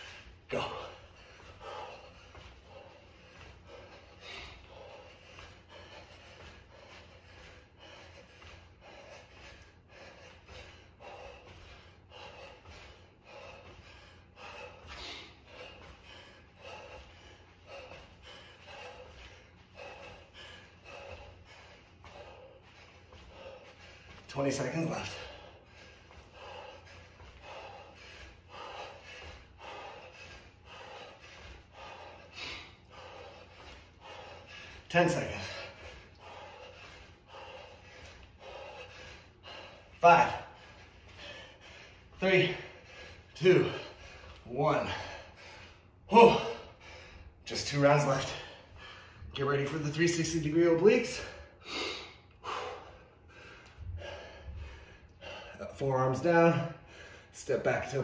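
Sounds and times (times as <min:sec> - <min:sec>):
man breathing hard: 0:00.0 - 0:58.0.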